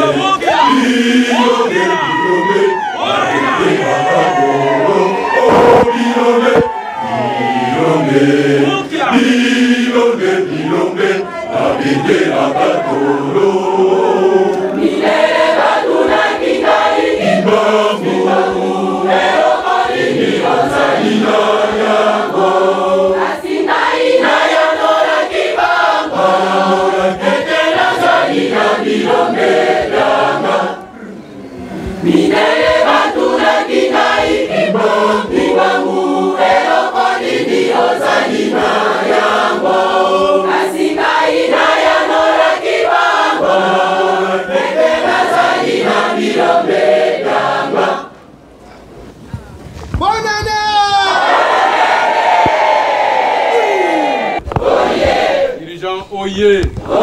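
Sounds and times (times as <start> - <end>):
church choir singing: 0.0 - 48.4, 51.2 - 55.8, 56.6 - 57.0.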